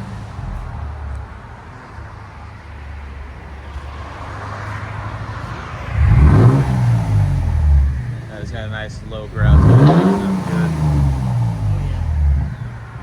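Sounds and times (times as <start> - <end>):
truck exhaust idling and revving: 0.0 - 13.0.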